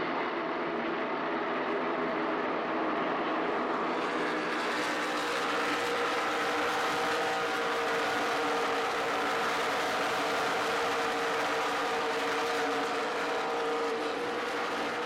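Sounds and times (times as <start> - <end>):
race car engines roaring: 0.0 - 15.0.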